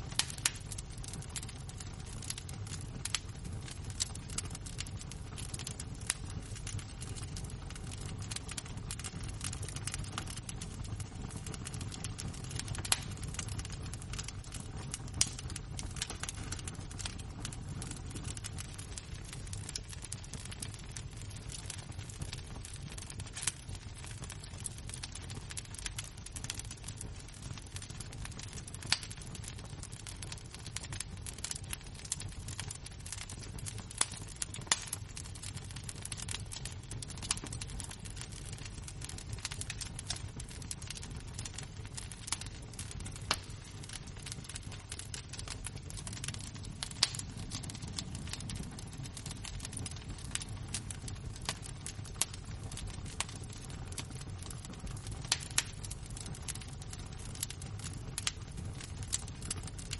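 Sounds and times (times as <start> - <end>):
sharp fire pops: 0.0 - 59.9
embers crackling: 0.1 - 59.8.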